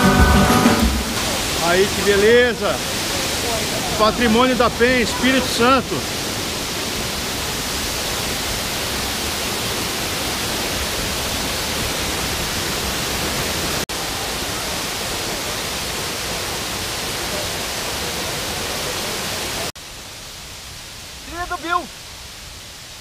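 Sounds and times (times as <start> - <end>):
waterfall and stream rushing: 0.0 - 23.0.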